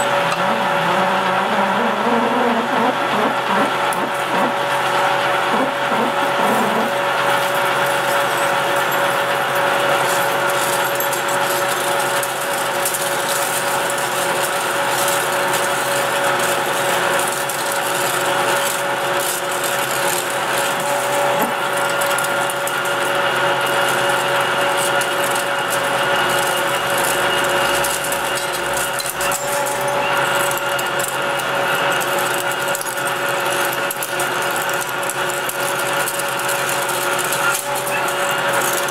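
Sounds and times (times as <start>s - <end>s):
lathe drilling metal: 0.0s - 38.9s.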